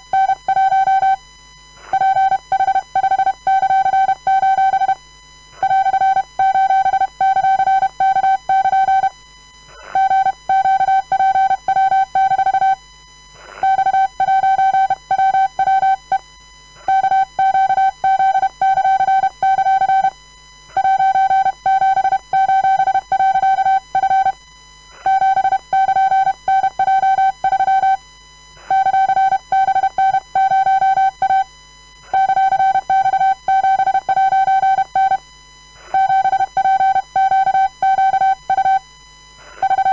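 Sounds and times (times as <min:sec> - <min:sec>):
morse code beeps: 0:00.1 - 0:01.2, 0:01.9 - 0:05.0, 0:05.6 - 0:09.1, 0:10.0 - 0:12.8, 0:13.6 - 0:16.2, 0:16.9 - 0:20.1, 0:20.8 - 0:24.4, 0:25.1 - 0:28.0, 0:28.7 - 0:31.5, 0:32.1 - 0:35.3, 0:35.9 - 0:38.9, 0:39.6 - 0:39.9.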